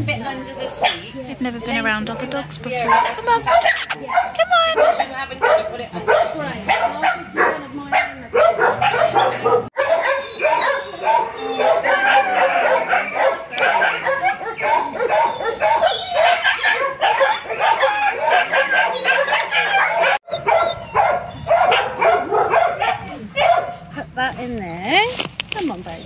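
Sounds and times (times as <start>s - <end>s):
many dogs barking and yelping: 0.0s - 25.0s.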